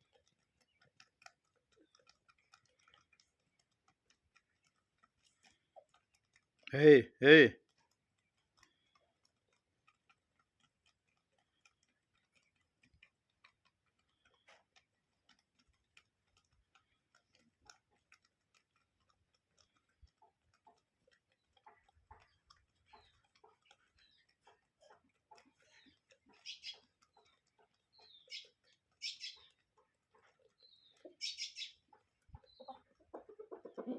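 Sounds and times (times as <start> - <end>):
faint irregular clicks: 0.0 - 33.9.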